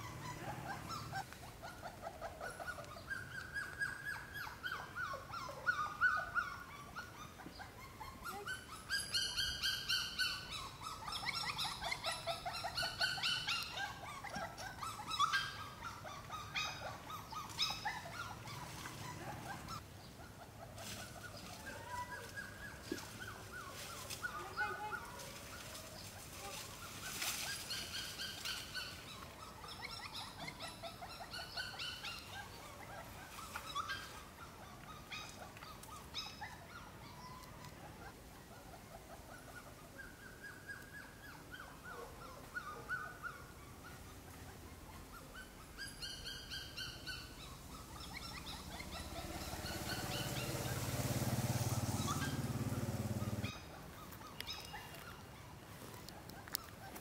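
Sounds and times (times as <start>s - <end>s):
puppies whimpering: 0.0s - 51.0s, 51.7s - 57.0s.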